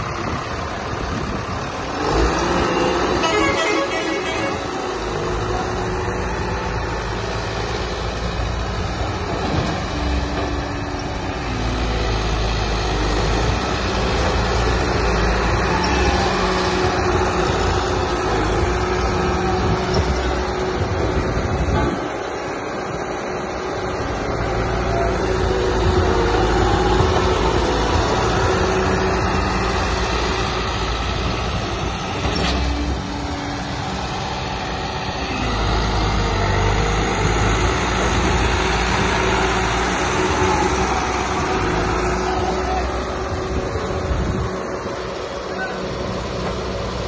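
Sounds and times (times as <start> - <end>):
soil compactor diesel engine running: 0.0 - 47.0.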